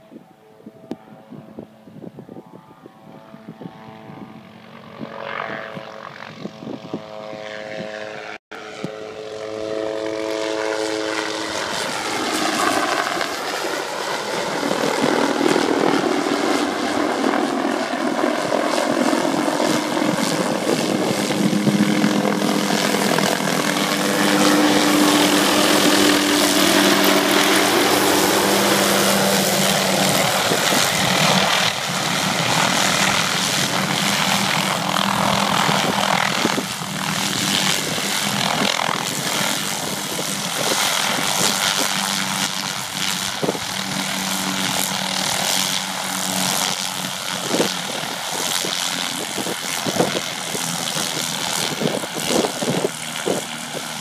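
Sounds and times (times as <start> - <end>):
helicopter rotor and engine: 0.0 - 54.0
helicopter whine: 0.0 - 54.0.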